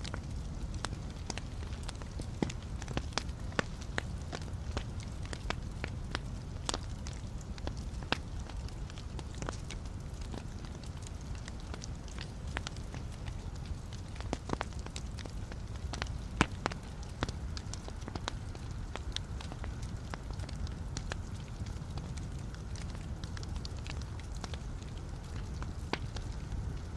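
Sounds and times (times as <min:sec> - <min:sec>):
fire flames rumbling: 0:00.0 - 0:26.9
logs crackling and popping: 0:00.0 - 0:26.9.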